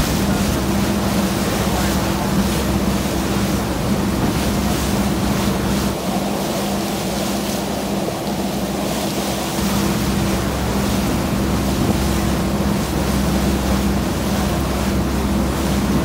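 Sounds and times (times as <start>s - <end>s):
wind on microphone: 0.0s - 6.4s, 9.5s - 16.0s
boat engine humming: 0.0s - 16.0s
water washing past hull: 0.0s - 16.0s.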